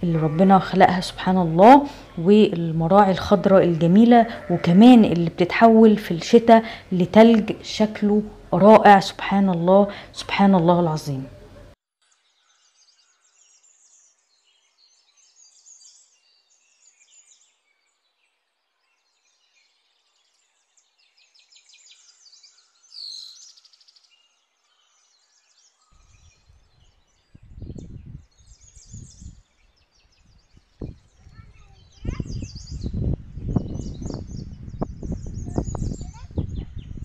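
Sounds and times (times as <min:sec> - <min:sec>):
songbirds chirping and trilling: 0:00.0 - 0:37.0.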